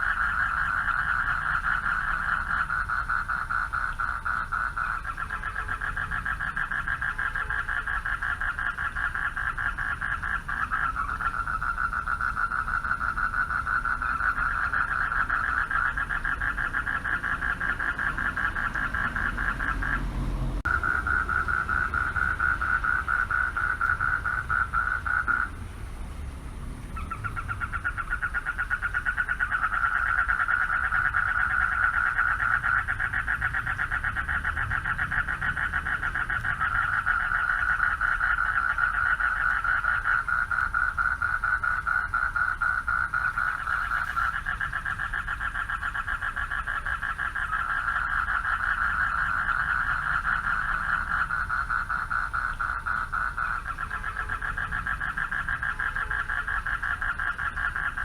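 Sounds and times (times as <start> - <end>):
frogs trilling: 0.0 - 25.7, 26.6 - 58.0.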